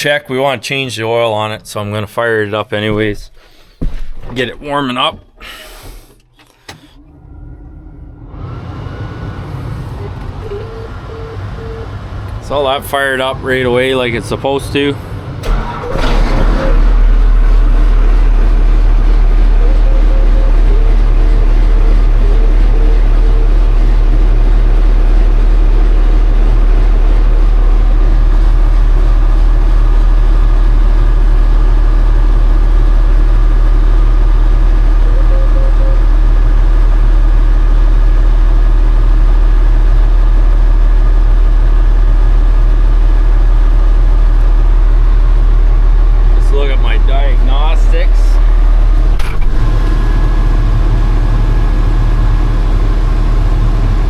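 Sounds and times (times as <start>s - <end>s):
engine idling: 5.6s - 54.0s.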